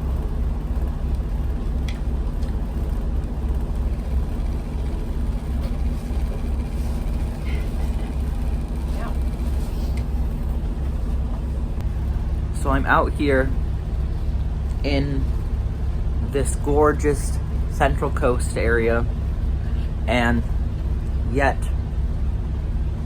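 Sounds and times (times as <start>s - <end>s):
boat engines droning: 0.0s - 23.0s.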